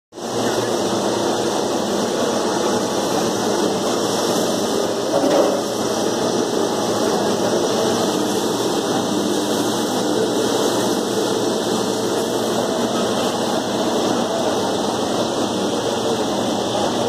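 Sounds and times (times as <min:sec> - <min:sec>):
processing machinery running: 0:00.2 - 0:17.0.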